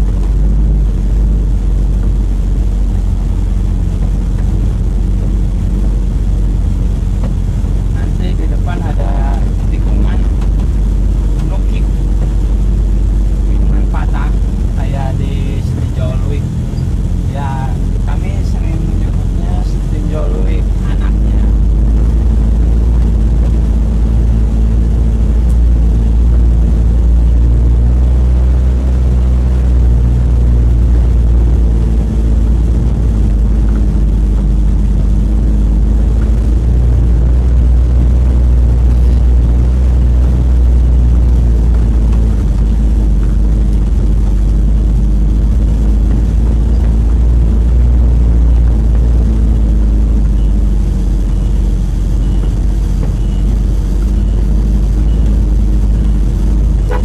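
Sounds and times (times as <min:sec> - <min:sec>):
pickup engine drone: 0:00.0 - 0:57.0
road noise: 0:00.0 - 0:57.0.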